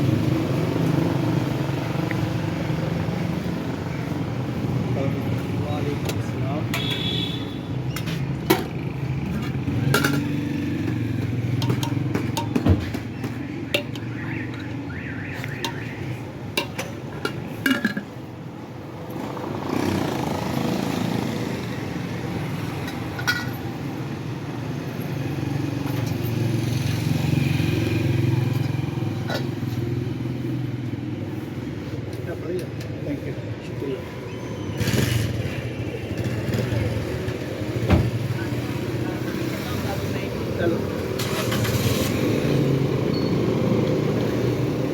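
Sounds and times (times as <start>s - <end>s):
motorcycles and traffic passing: 0.0s - 44.9s.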